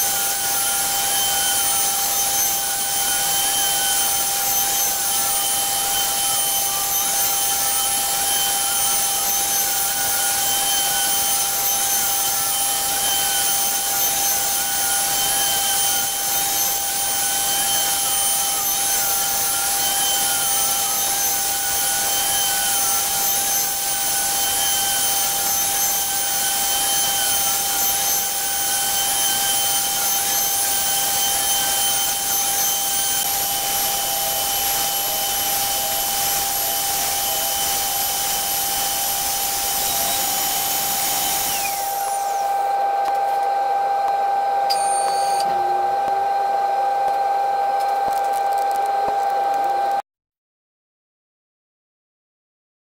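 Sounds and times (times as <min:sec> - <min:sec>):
router bit carving wood: 0:00.0 - 0:50.0
router spindle whining: 0:00.0 - 0:50.0.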